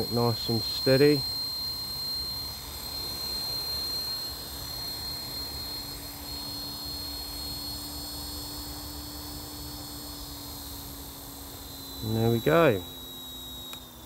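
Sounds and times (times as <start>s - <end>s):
rc helicopter whine: 0.0s - 14.0s.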